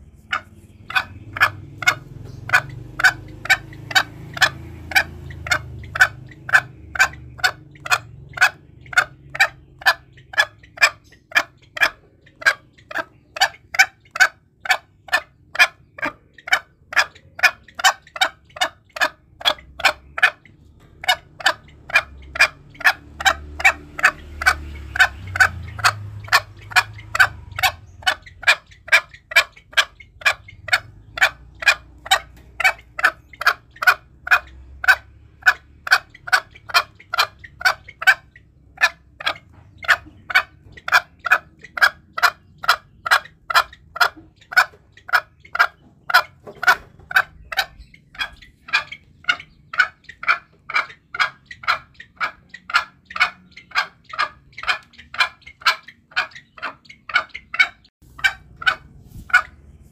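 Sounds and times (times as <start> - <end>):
junglefowl clucking: 0.0 - 59.9.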